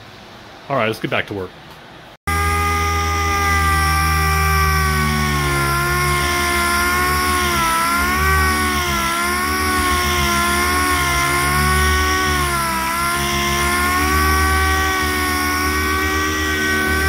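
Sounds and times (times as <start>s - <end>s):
air sander whining: 2.3s - 17.0s.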